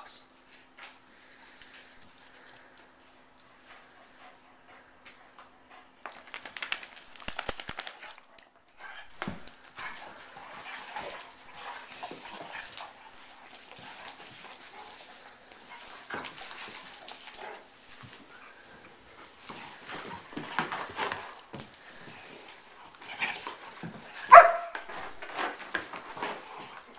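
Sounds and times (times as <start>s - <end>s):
dogs scuffling and thumping: 0.6s - 26.9s.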